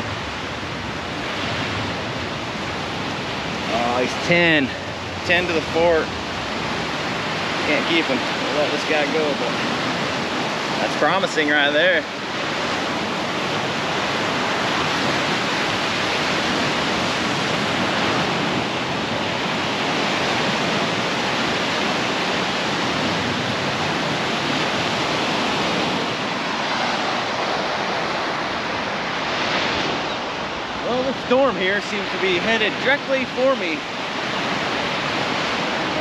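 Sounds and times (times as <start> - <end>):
surf breaking on beach: 0.0 - 36.0.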